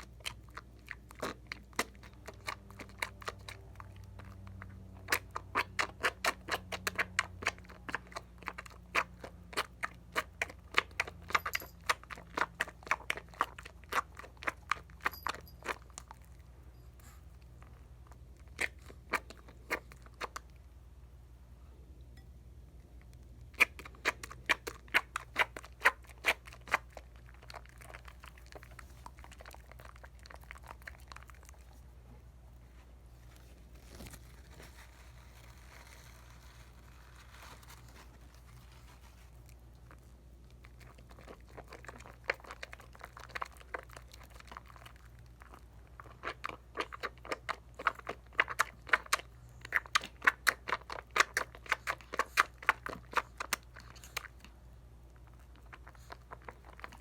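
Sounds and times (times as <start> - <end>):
soap lather squishing: 0.0 - 15.9, 23.2 - 31.9, 33.3 - 57.0.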